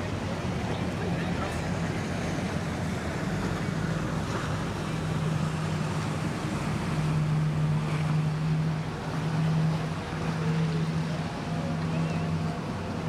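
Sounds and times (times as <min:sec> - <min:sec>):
boat engine humming: 0:00.0 - 0:13.0
water noise: 0:00.0 - 0:13.0
wind: 0:00.0 - 0:13.0.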